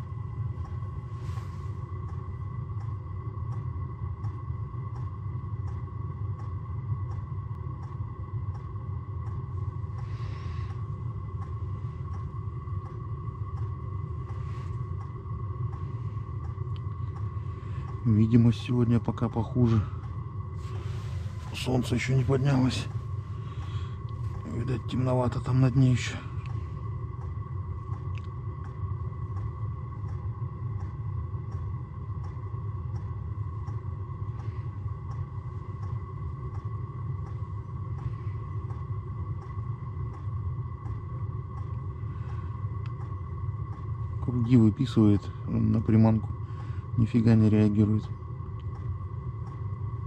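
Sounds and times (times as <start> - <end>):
faint ticks: 0.0 - 50.0
steady low rumble: 0.0 - 50.0
thin steady whine: 0.0 - 50.0.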